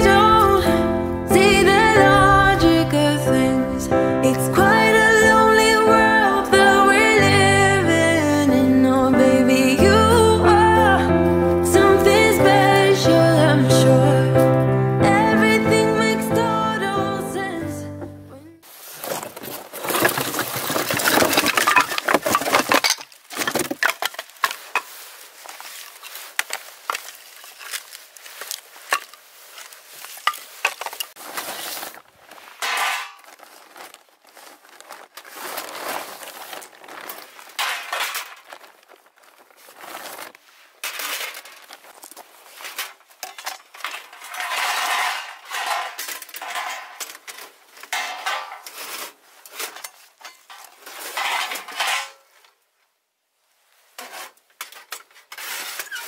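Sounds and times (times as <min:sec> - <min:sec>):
rustling: 0:00.0 - 0:16.5, 0:18.6 - 0:56.0.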